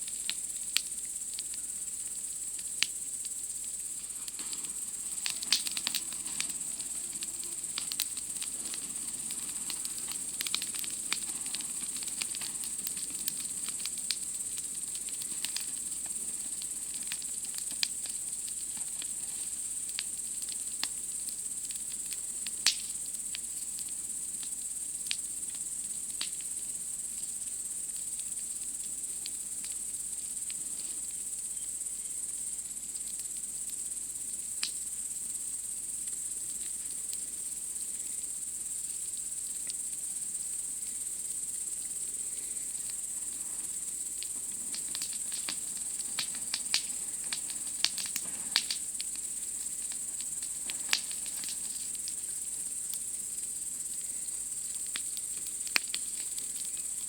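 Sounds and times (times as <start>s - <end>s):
campfire crackling and popping: 0.0s - 31.2s, 34.5s - 34.9s, 38.8s - 40.1s, 40.7s - 57.0s
night insects chirping: 0.0s - 57.0s.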